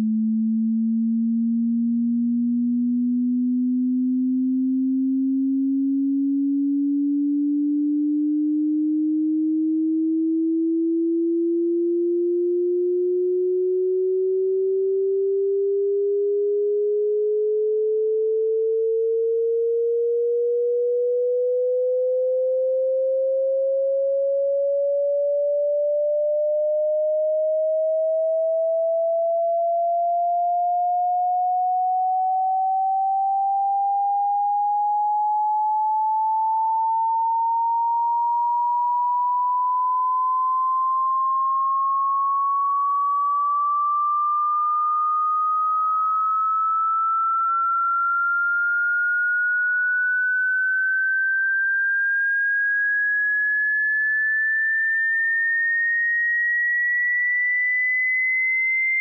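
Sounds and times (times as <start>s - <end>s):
sine tone sweeping upward: 0.0s - 59.0s.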